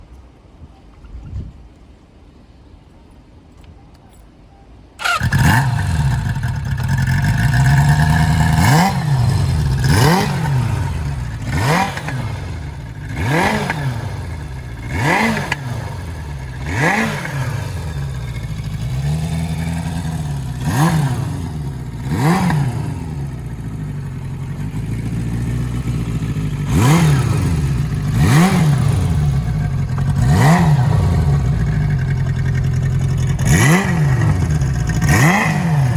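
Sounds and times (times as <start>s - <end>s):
motorcycle engine revving: 5.0s - 35.9s
motorcycle engine starting: 5.0s - 35.9s.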